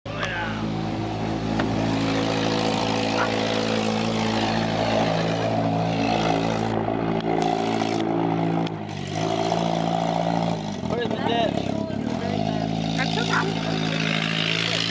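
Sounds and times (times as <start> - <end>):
car engine running: 0.1 - 14.9.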